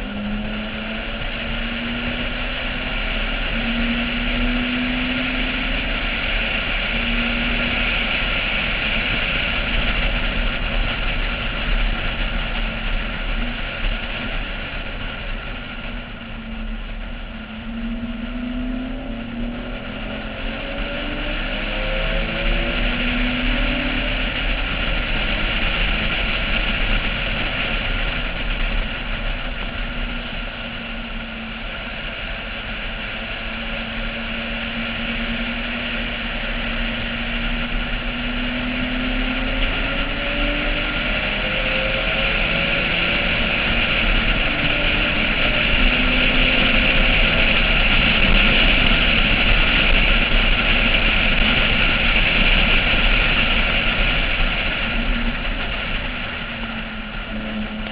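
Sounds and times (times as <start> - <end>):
car engine accelerating: 0.0 - 57.9
road rush: 0.0 - 57.9
wind noise: 0.0 - 57.9.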